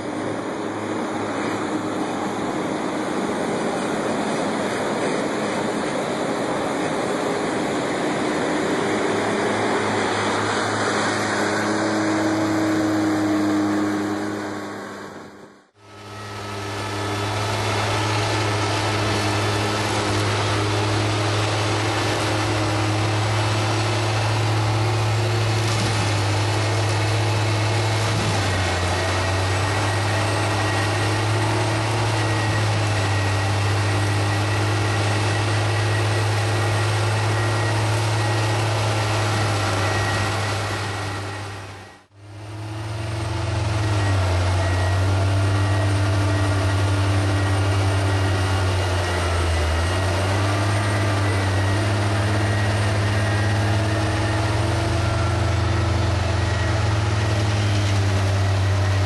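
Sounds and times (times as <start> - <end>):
heavy machine engine humming: 0.0 - 59.0.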